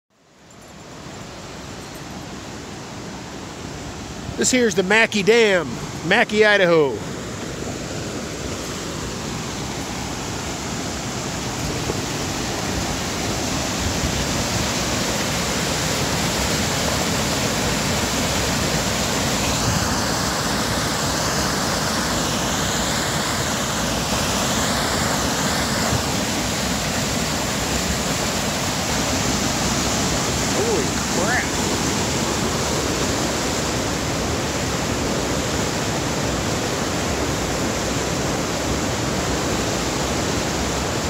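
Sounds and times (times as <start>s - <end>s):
whitewater rushing over rocks: 0.2s - 41.0s.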